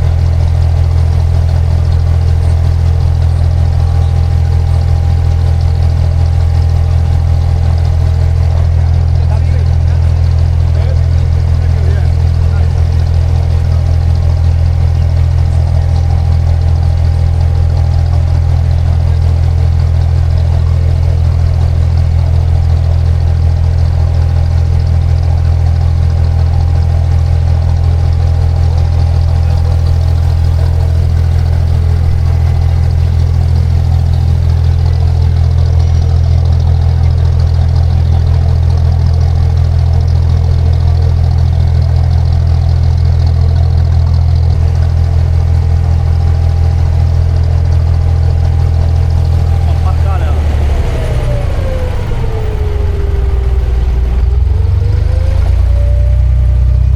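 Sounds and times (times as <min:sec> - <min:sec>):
boat engine droning: 0:00.0 - 0:56.9.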